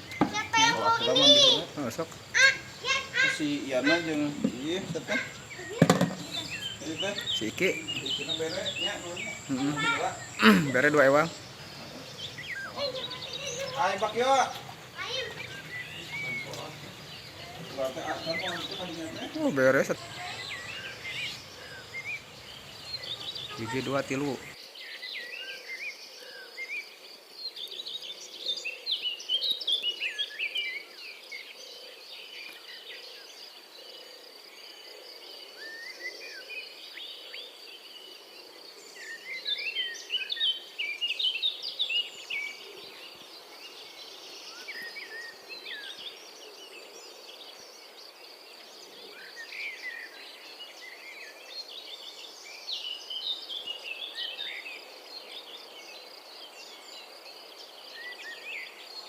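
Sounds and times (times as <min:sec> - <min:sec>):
birds twittering: 0:00.0 - 0:26.9, 0:27.5 - 0:59.0.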